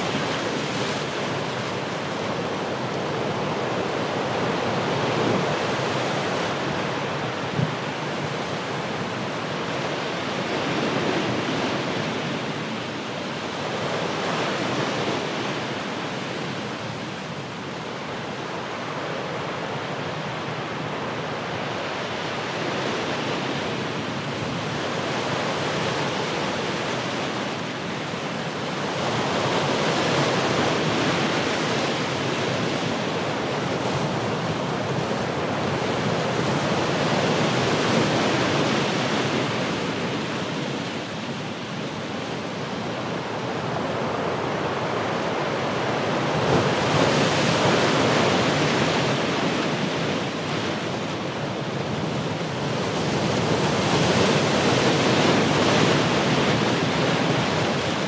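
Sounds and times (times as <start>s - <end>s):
ocean waves crashing on rocks: 0.0s - 12.8s, 21.0s - 58.0s.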